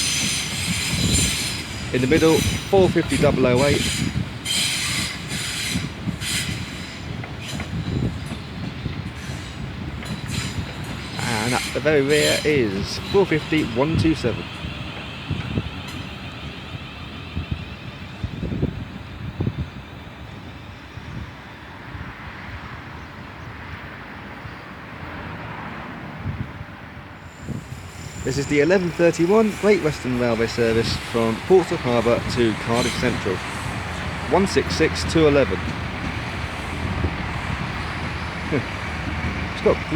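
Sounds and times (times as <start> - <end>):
train wheels rumbling on rails: 0.0 - 22.8, 27.2 - 39.9
wind buffeting microphone: 0.0 - 23.8, 26.1 - 39.9.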